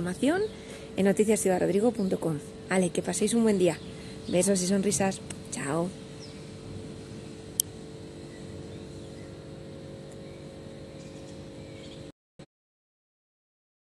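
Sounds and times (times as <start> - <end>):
machine hum with low tones: 0.0 - 12.1.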